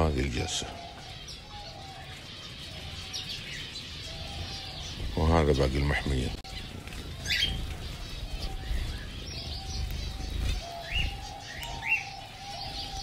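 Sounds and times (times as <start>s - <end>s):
wings fluttering: 0.0s - 13.0s.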